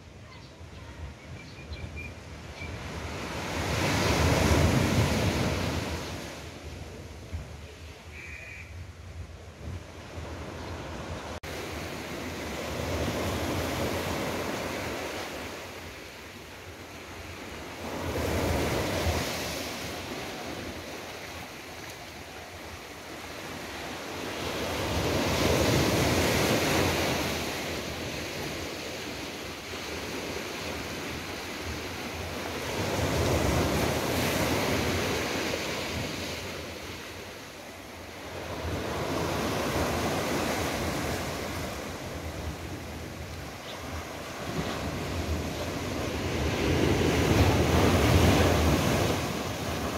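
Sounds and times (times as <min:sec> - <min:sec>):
small waves breaking on sand: 0:02.8 - 0:07.0, 0:10.0 - 0:49.9.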